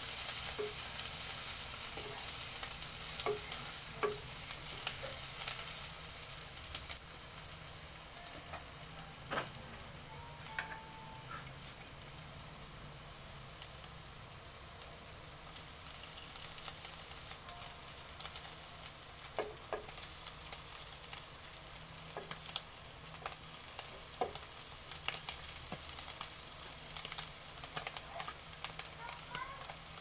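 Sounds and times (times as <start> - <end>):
crackles and pops: 0.0 - 14.1, 14.7 - 30.0
food sizzling in hot oil: 0.0 - 30.0.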